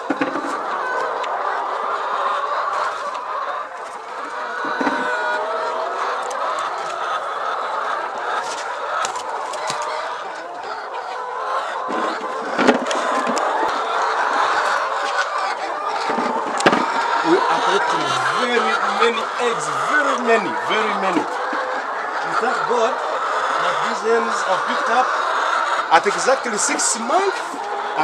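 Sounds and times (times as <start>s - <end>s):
hens clucking: 0.0s - 28.0s.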